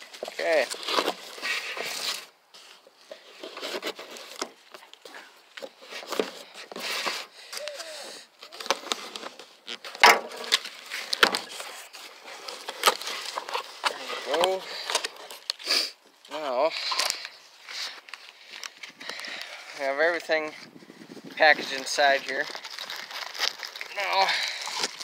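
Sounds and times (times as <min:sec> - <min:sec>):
packing tape cut and pulled: 0:00.0 - 0:02.3, 0:03.2 - 0:05.0, 0:05.6 - 0:19.8, 0:21.6 - 0:25.0
cardboard crackling and scraping: 0:00.0 - 0:15.6, 0:16.3 - 0:25.0.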